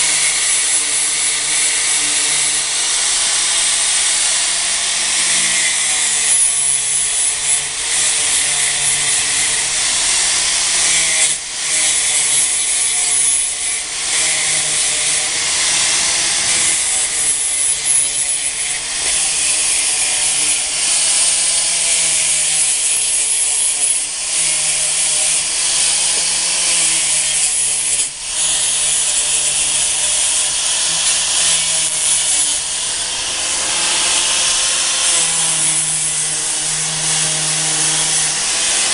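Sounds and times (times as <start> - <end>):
angle grinder grinding: 0.0 - 38.9.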